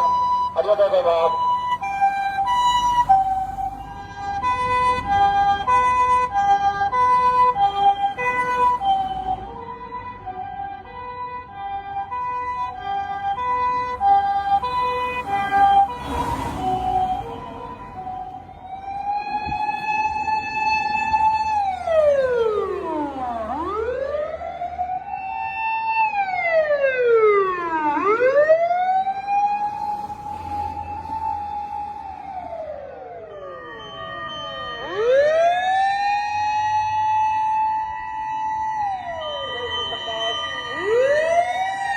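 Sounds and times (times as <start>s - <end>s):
two-tone ambulance siren: 0.0s - 41.9s
wail siren: 0.0s - 41.9s.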